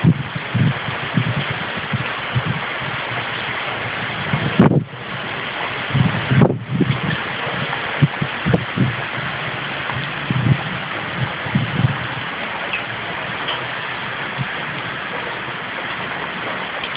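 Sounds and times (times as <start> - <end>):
heavy rain pouring: 0.0 - 16.9
wind buffeting microphone: 0.0 - 16.9.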